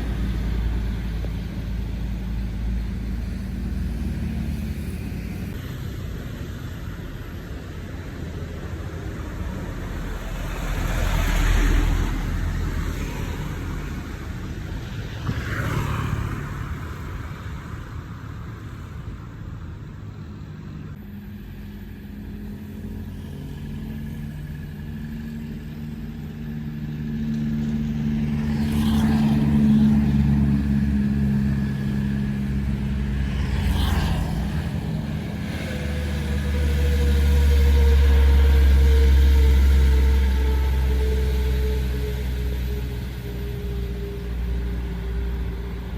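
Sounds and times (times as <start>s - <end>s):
vehicles whooshing past: 0.0s - 21.1s, 22.7s - 45.9s
deep rumble of approaching truck: 0.0s - 45.9s.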